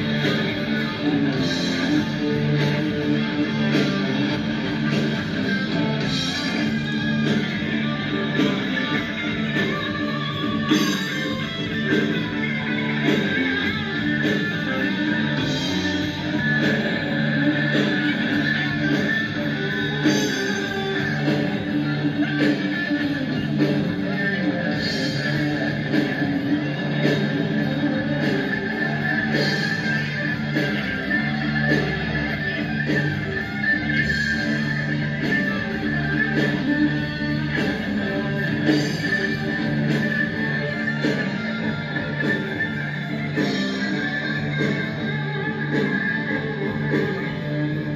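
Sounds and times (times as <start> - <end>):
guitar rock music: 0.0 - 47.9.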